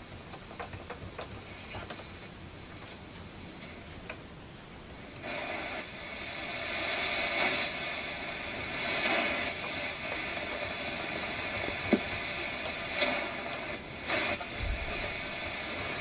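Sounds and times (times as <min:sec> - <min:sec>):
radio static hissing: 0:00.0 - 0:16.0.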